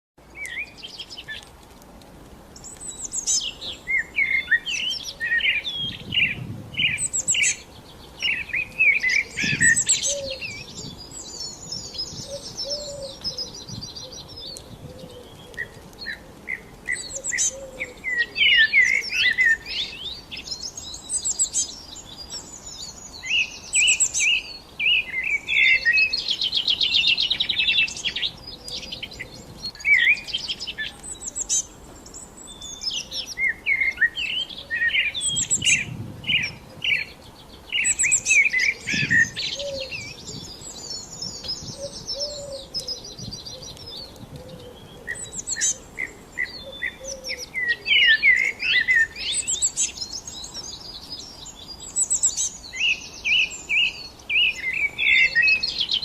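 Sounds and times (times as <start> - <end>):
songbirds chirping and trilling: 0.2 - 56.0.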